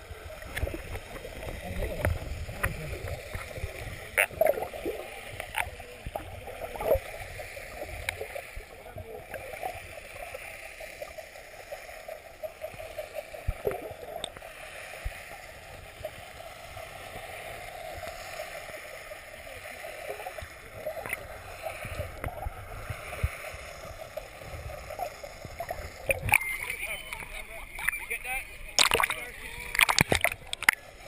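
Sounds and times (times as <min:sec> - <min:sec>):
muffled underwater water wash: 0:00.0 - 0:31.0.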